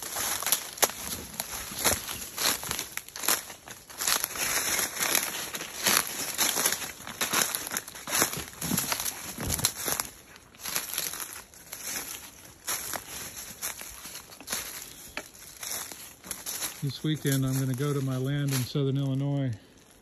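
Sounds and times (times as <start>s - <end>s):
footsteps crunching dry leaves: 0.0s - 20.0s.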